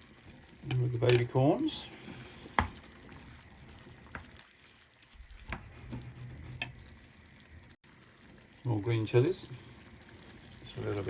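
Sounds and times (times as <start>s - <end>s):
sauce simmering in saucepan: 0.0s - 11.0s.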